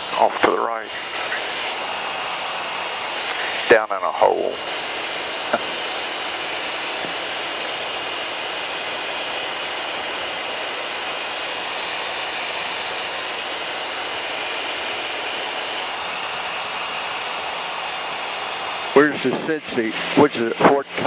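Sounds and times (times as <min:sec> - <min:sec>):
aircraft cabin engine drone: 0:00.0 - 0:21.0
faint steady whine: 0:00.0 - 0:21.0.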